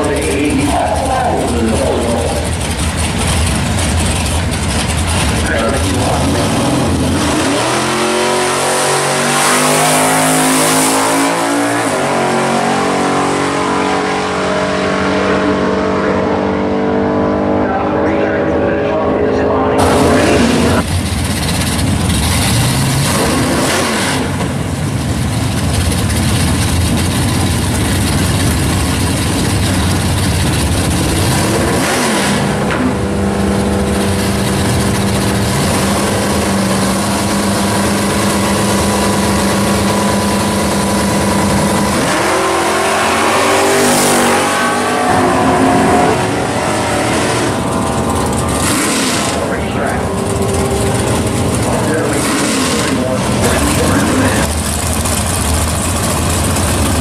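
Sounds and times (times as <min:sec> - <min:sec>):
drag racing engines revving: 0:00.0 - 0:57.0.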